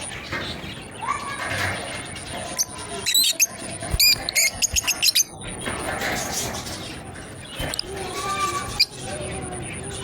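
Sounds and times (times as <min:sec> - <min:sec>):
lovebirds chirping: 0:00.0 - 0:10.0.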